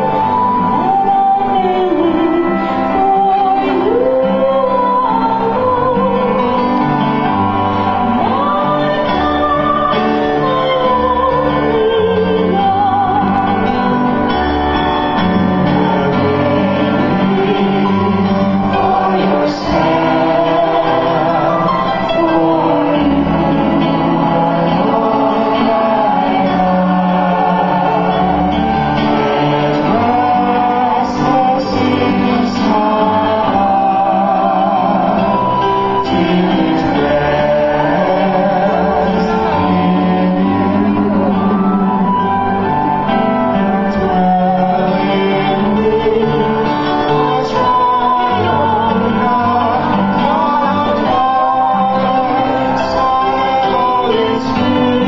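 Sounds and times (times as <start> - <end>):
instrumental accompaniment: 0.0 - 55.0
person singing: 0.0 - 55.0
sustained bass notes: 0.0 - 55.0.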